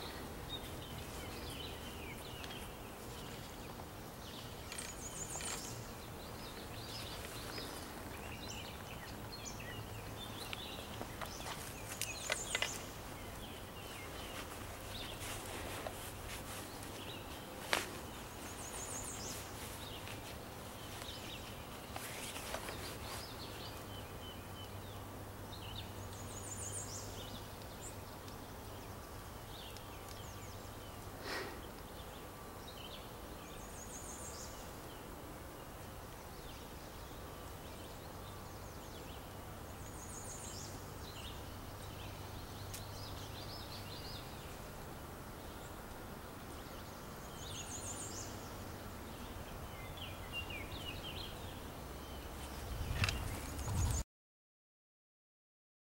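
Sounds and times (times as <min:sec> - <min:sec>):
outdoor background hiss: 0:00.0 - 0:54.0
songbird singing: 0:00.0 - 0:54.0.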